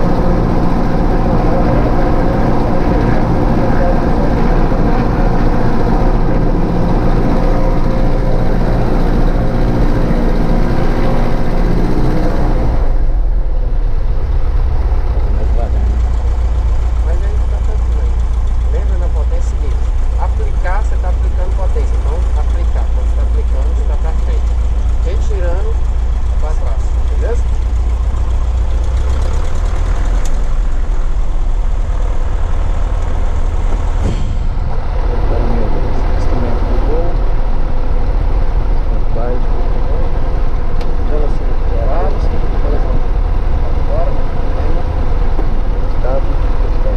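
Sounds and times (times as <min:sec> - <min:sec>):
light aircraft engine and propeller: 0:00.0 - 0:46.9.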